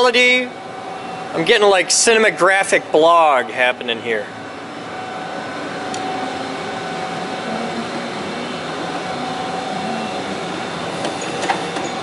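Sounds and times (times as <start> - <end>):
faint whine: 0.0 - 12.0
forklift running: 0.0 - 12.0.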